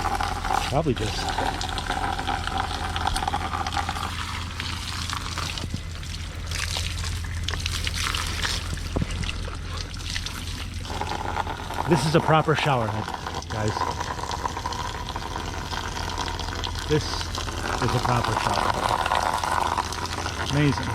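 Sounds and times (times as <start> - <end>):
water running from shower head: 0.0 - 9.0, 10.0 - 20.9.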